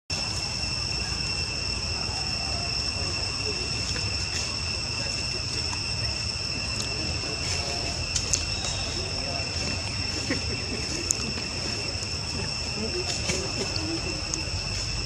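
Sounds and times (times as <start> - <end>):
insects trilling: 0.1 - 15.0
low rumbling background: 0.1 - 15.0.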